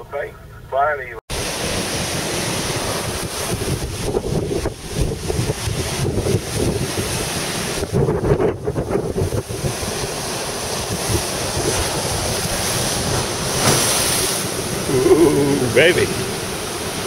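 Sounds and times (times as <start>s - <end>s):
storm surf breaking: 1.3s - 17.0s
wind gusting on microphone: 1.3s - 17.0s.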